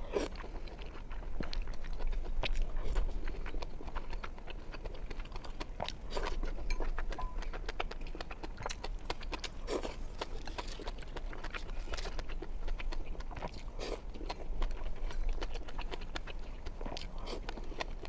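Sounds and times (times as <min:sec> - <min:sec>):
person chewing wetly: 0:00.0 - 0:18.0.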